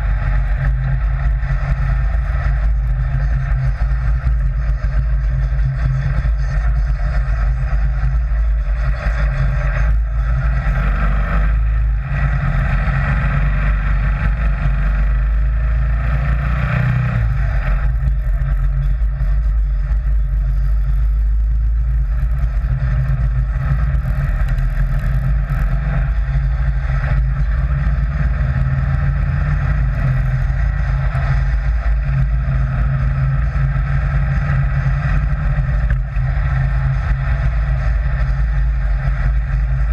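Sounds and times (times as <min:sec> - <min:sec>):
dune buggy engine running: 0:00.0 - 0:39.9.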